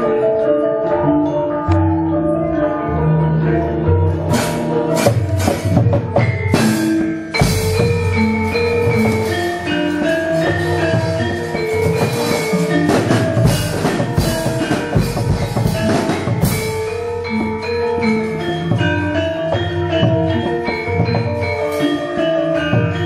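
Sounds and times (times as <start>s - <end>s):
metal mallet instruments melody: 0.0s - 23.0s
drumming: 4.2s - 23.0s.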